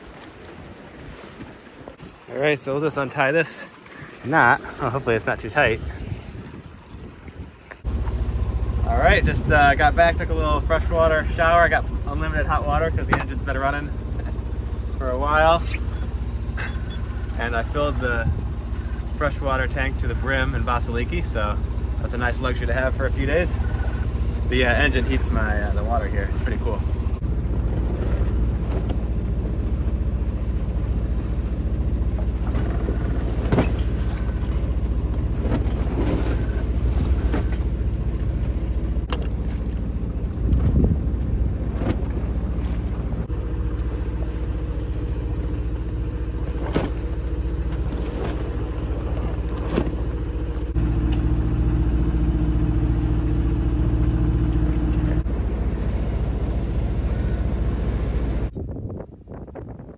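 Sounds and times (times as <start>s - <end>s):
boat engine droning: 0.0s - 58.6s
water and wind noise: 0.0s - 59.9s.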